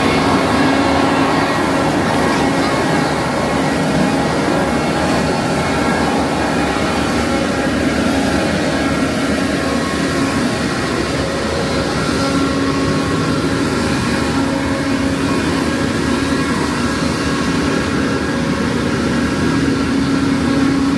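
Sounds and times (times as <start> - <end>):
mist fan roaring: 0.0 - 20.9
whining tones: 0.0 - 20.9.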